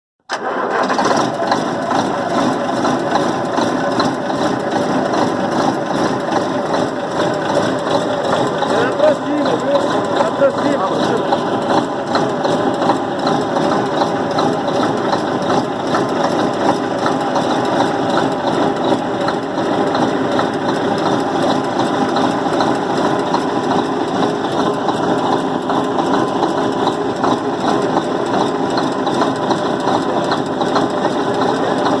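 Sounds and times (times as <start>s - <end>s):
rapid uneven engine ticking: 0.3s - 32.0s
truck diesel engine running: 0.3s - 32.0s.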